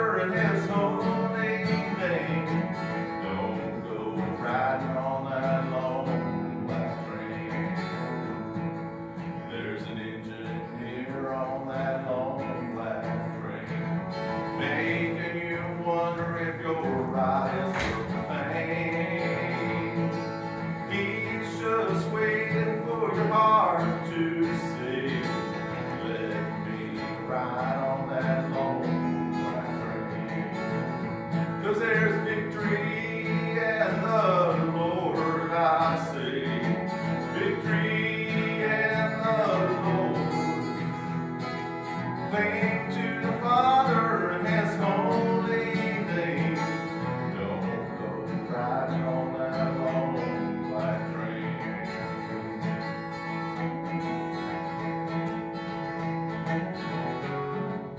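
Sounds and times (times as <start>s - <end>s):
acoustic guitar: 0.0s - 57.9s
man singing a country song: 0.0s - 57.9s.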